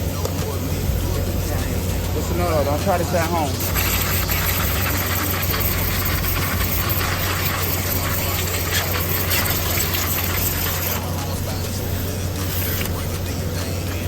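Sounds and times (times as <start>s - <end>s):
cleaning machine engine humming: 0.0s - 14.0s
steady hiss: 0.0s - 14.0s.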